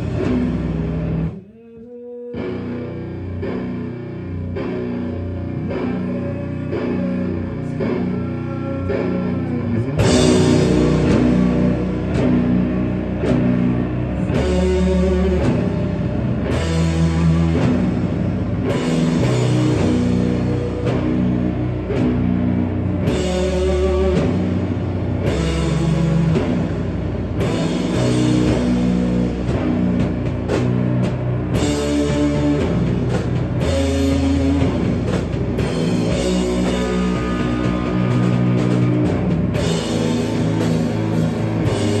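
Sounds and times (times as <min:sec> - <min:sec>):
rock band playing live: 0:00.0 - 0:01.4, 0:02.4 - 0:42.0.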